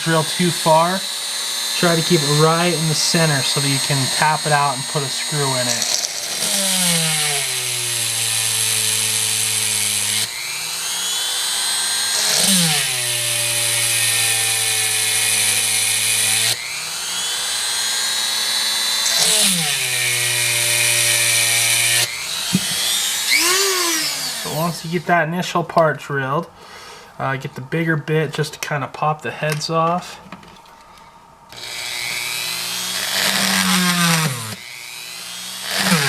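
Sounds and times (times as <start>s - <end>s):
electric drill drilling into metal: 0.0s - 25.0s, 31.5s - 36.0s.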